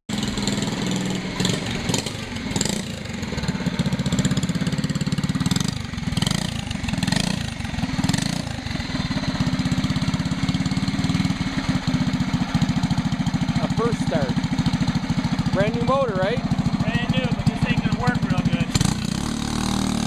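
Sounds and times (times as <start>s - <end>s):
go-kart engine running: 0.1s - 20.0s.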